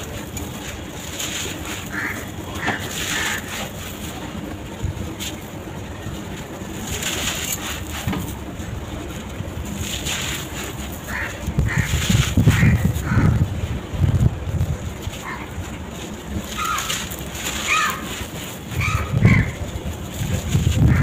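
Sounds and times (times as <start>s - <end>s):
gritty crunching: 0.0s - 21.0s.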